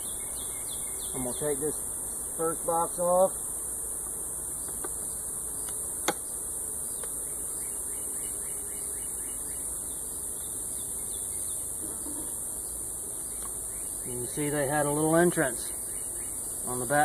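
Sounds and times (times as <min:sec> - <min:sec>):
high-pitched hiss: 0:00.0 - 0:17.0
honeybees buzzing: 0:00.0 - 0:17.0.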